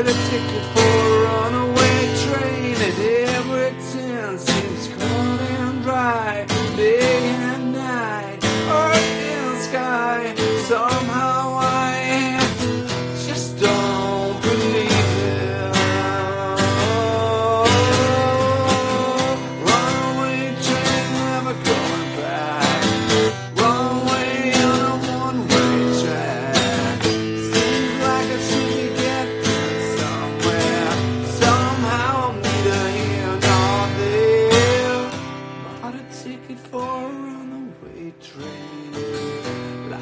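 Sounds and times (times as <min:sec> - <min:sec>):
bending lead guitar melody: 0:00.0 - 0:40.0
strummed acoustic guitar: 0:00.0 - 0:40.0.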